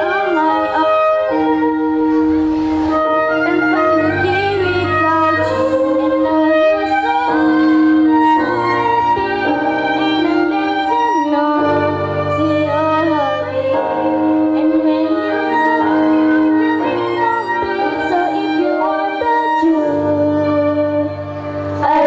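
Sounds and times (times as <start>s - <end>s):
string-like instrumental backing: 0.0s - 22.0s.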